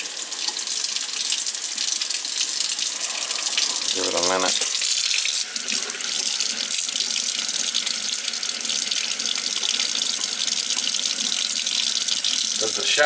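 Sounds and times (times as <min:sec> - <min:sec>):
faucet running into metal sink: 0:00.0 - 0:13.0.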